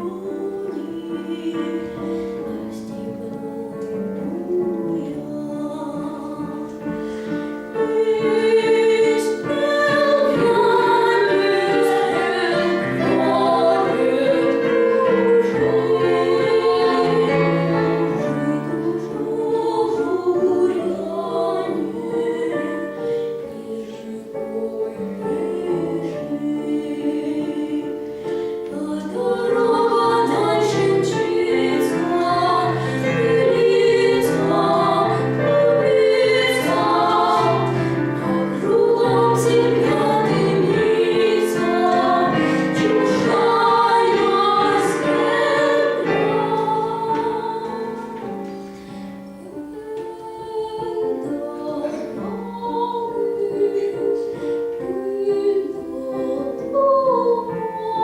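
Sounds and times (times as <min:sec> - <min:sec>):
duet singing: 0:00.0 - 0:58.0
instrumental accompaniment: 0:00.0 - 0:58.0.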